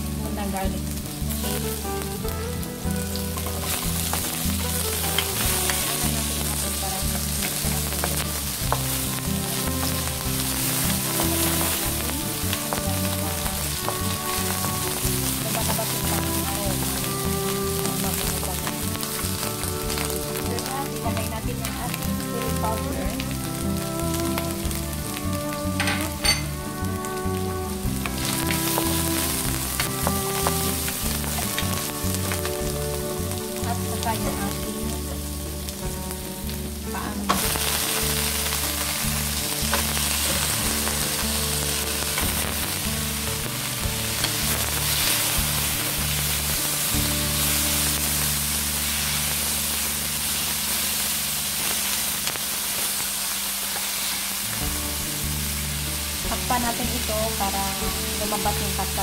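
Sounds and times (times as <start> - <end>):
background music: 0.0 - 59.0
loud sizzle of frying meat: 0.0 - 59.0.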